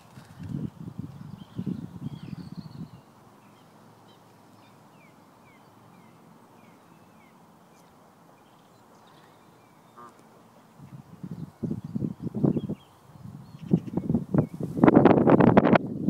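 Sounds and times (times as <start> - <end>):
steady low hiss: 0.0 - 16.0
small birds chirping: 0.2 - 14.8.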